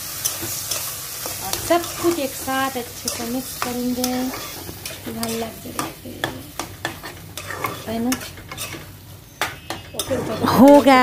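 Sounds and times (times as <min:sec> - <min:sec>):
food sizzling in a pan: 0:00.0 - 0:11.0
spatula scraping a pan: 0:00.1 - 0:11.0.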